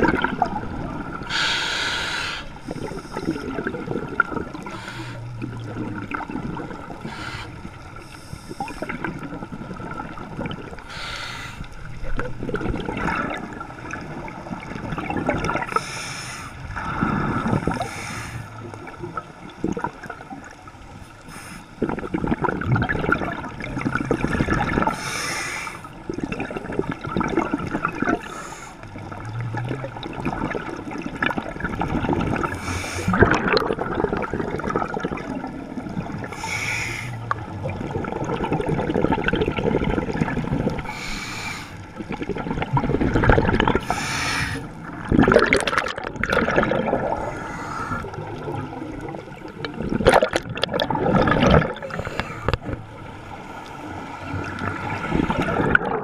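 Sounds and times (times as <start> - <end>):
underwater regulator bubbles gurgling: 0.0 - 56.0.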